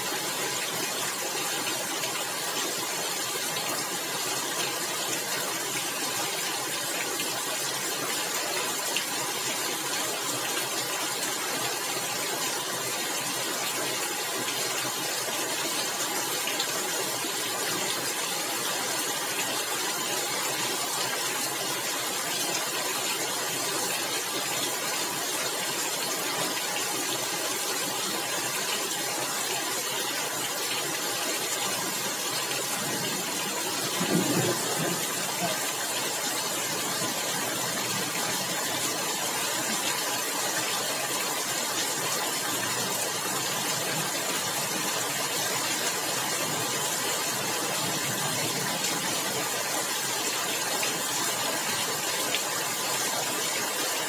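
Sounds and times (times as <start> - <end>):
heavy rain on roof tiles: 0.0 - 54.0.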